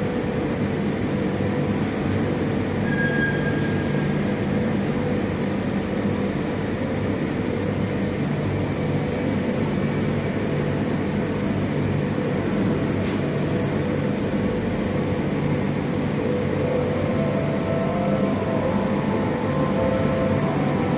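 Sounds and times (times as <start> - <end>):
heavy machinery rumbling drone: 0.0 - 20.9.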